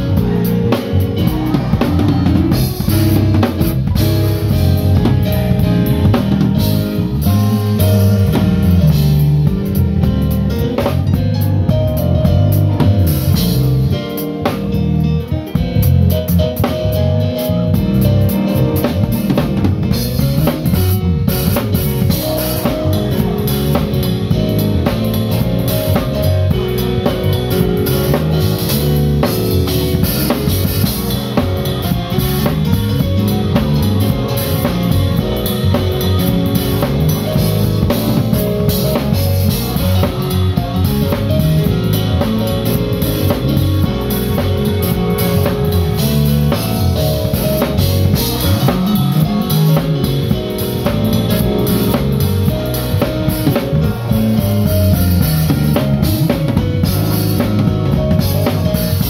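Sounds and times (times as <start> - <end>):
bass: 0.0 - 59.0
drum kit playing: 0.0 - 59.0
organ and keyboard chords: 0.0 - 59.0.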